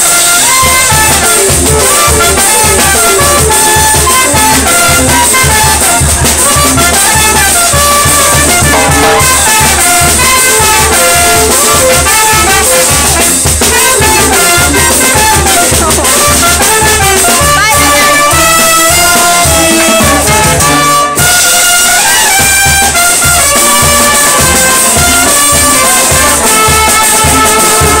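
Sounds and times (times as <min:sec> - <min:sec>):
steady drum beat: 0:00.0 - 0:28.0
trumpets playing melody: 0:00.0 - 0:28.0.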